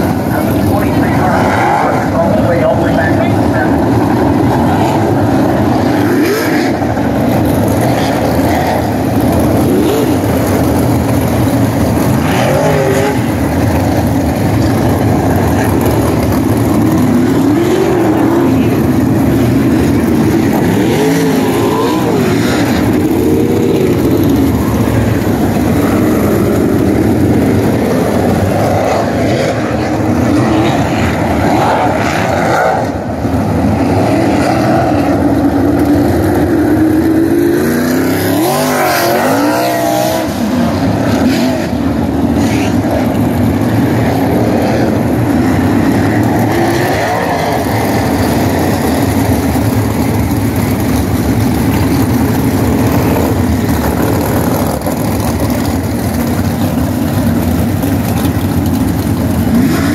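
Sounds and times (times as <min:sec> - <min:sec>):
race car engines racing: 0:00.0 - 0:59.9.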